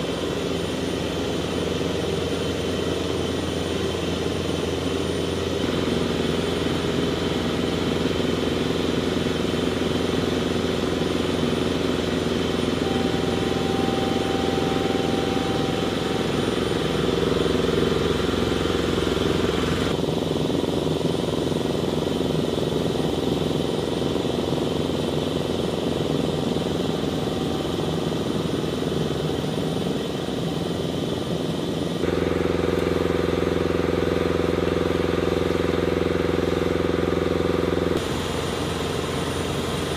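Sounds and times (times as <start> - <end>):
engines and machinery droning: 0.0 - 39.9.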